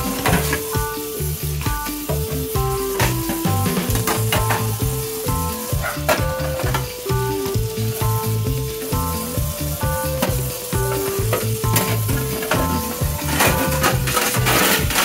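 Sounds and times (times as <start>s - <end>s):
background music with bass line: 0.0s - 15.0s
water running onto metal tray: 0.0s - 15.0s.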